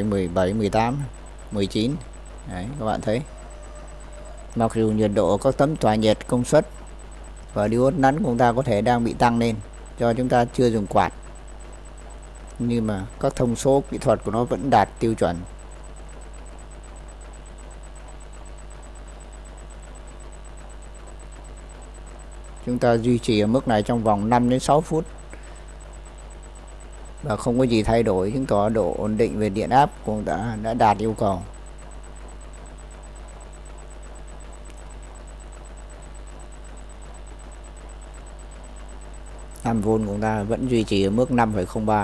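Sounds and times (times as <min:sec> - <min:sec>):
faint high-pitched pulsing tone: 0:00.0 - 0:42.0
low electrical hum: 0:00.0 - 0:42.0.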